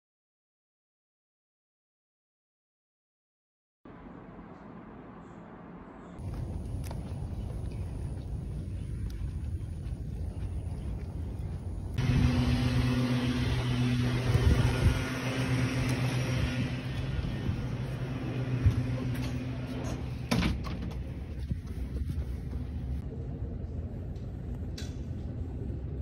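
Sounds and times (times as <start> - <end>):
mechanical hum: 3.9 - 26.0.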